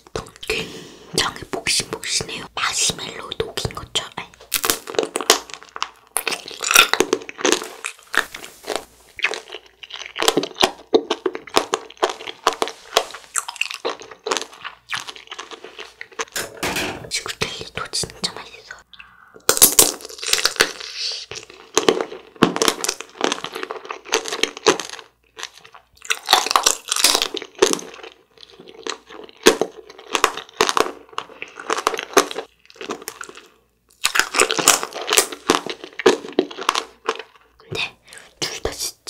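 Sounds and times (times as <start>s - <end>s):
crunching hard candy: 3.2s - 16.4s, 19.5s - 39.0s.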